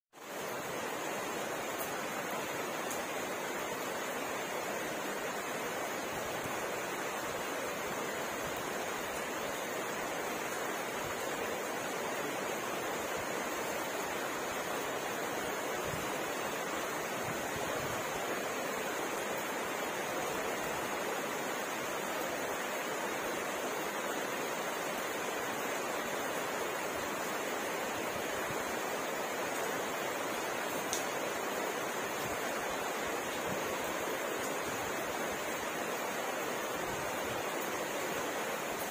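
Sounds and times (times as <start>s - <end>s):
steady rain falling: 0.1s - 38.9s.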